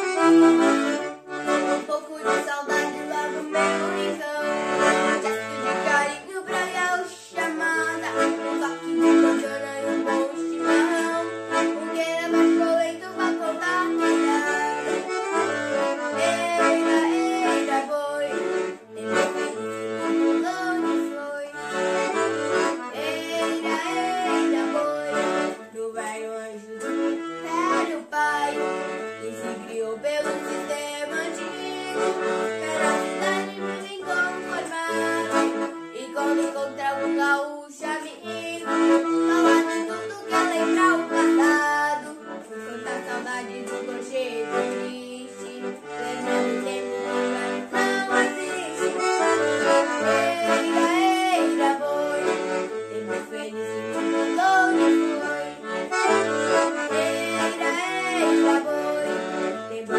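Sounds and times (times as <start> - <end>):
accordion playing: 0.0 - 59.9
child singing: 1.6 - 19.6, 20.3 - 21.6, 22.8 - 26.7, 27.4 - 49.0, 49.9 - 59.9.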